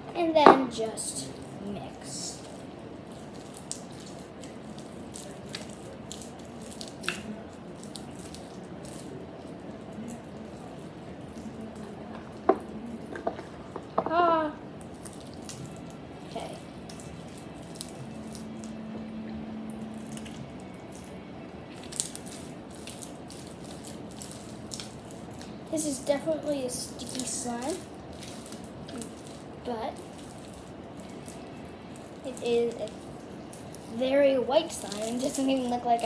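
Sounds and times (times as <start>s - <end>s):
slime squelching: 0.0s - 36.0s.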